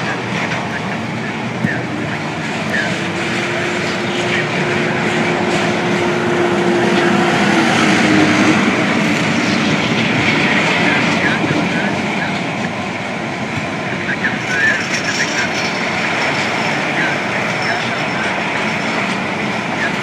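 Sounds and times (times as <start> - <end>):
train wheels rumbling and rattling: 0.0 - 20.0.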